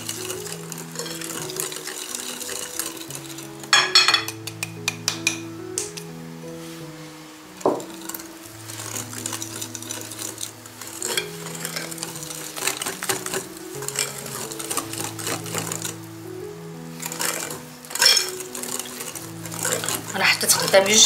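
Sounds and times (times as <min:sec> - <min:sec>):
soft background music: 0:00.0 - 0:21.0
utensil stirring batter in bowl: 0:00.0 - 0:21.0.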